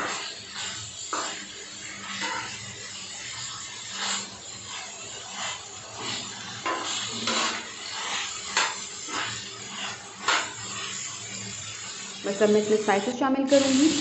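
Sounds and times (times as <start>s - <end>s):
frying sizzle: 0.0s - 14.0s
metal spatula scraping a griddle: 0.0s - 14.0s.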